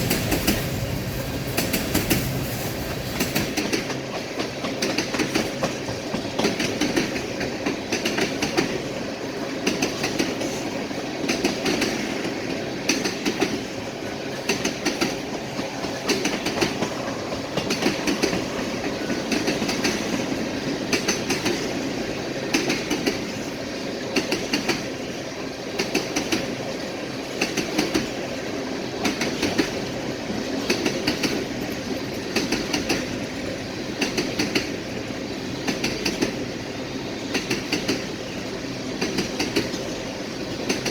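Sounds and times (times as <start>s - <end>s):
freight train rumble: 0.0s - 40.9s
train wheels clicking over rail joints: 0.0s - 40.9s.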